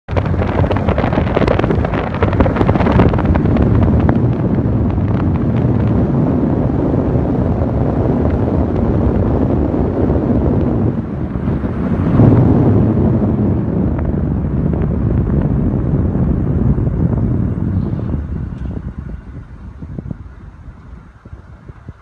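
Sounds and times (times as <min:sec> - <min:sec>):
low rumbling noise: 0:00.1 - 0:22.0
wind buffeting microphone: 0:00.1 - 0:22.0.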